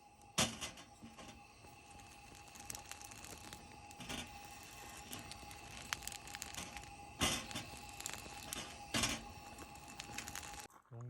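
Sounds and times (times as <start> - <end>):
rustling handling noise: 0.4 - 10.7.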